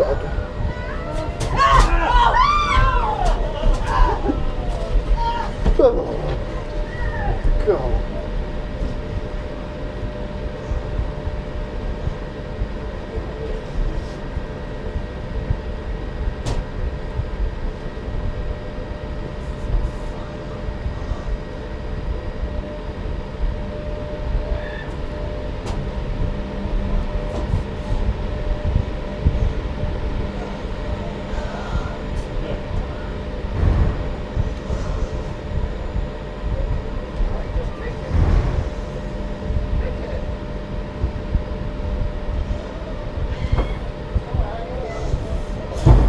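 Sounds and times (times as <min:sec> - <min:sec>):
constant hum: 0:00.0 - 0:46.0
train carriage rumbling: 0:00.0 - 0:46.0.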